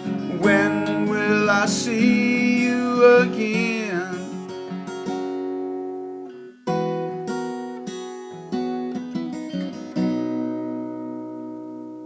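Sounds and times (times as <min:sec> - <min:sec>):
acoustic guitar strumming and picking: 0:00.0 - 0:12.0.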